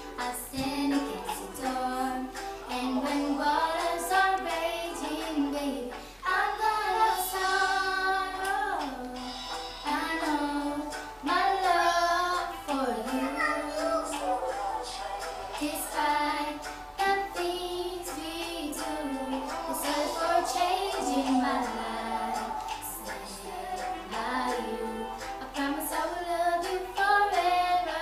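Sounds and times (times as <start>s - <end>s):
girls singing: 0.0s - 28.0s.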